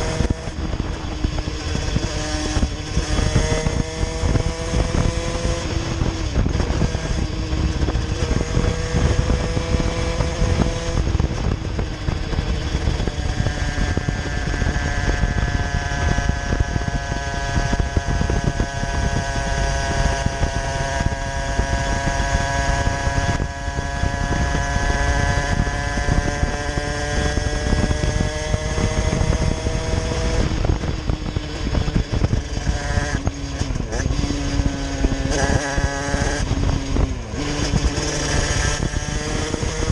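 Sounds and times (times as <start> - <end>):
moped engine revving: 0.0 - 39.9
wind noise on microphone: 0.0 - 39.9.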